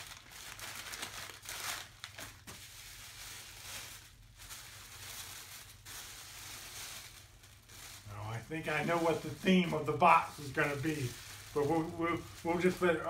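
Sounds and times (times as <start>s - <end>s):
tissue paper rustling: 0.0s - 13.0s
wrapping paper crinkling and tearing: 0.0s - 13.0s.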